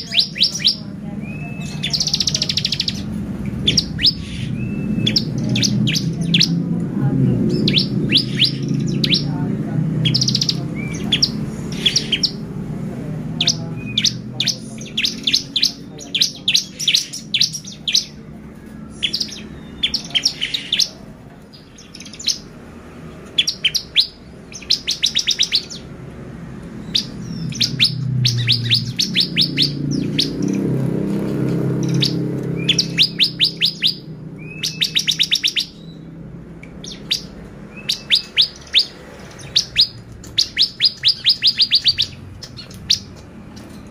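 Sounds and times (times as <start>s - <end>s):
bird chirping in rapid trills: 0.0s - 43.9s.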